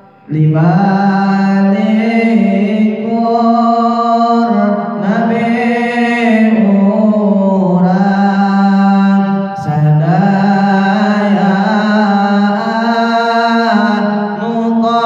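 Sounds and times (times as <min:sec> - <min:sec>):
young man chanting: 0:00.0 - 0:15.0.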